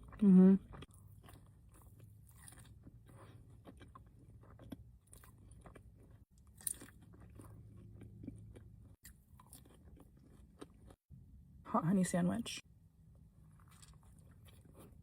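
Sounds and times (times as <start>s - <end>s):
chewing and crunching food: 0.0s - 11.1s, 13.1s - 15.0s.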